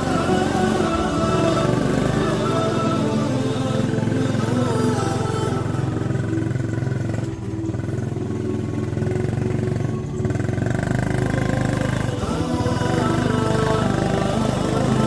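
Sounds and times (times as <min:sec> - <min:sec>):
small motorcycle engine under load: 0:00.0 - 0:15.0.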